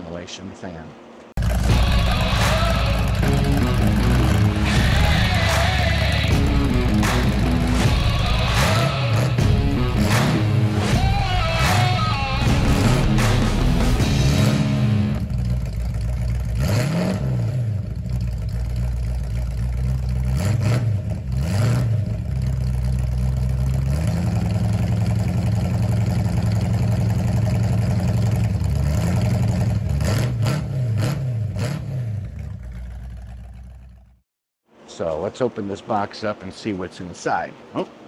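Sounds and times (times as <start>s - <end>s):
car engine rumbling and revving: 1.0s - 34.2s.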